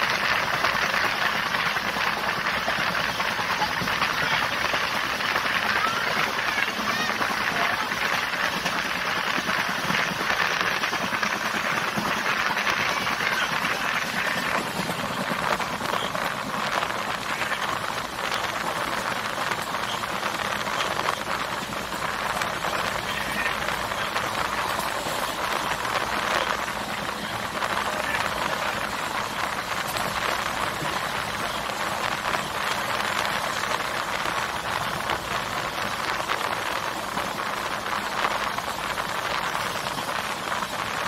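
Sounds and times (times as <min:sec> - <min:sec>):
train wheels rushing on rails: 0:00.0 - 0:41.0.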